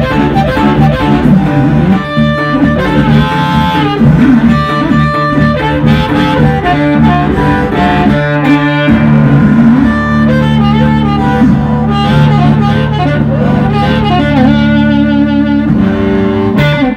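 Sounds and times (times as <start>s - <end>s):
amplified blues harmonica: 0.0s - 16.9s
electric guitar accompaniment: 0.0s - 16.9s.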